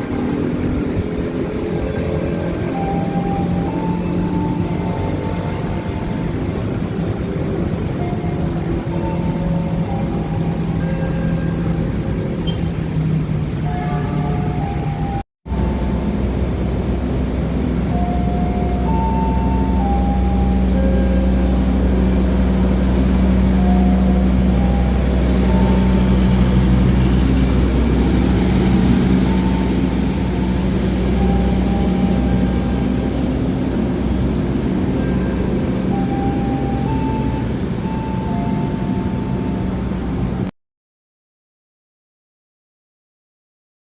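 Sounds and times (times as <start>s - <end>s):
locomotive engine drone: 0.0s - 40.5s.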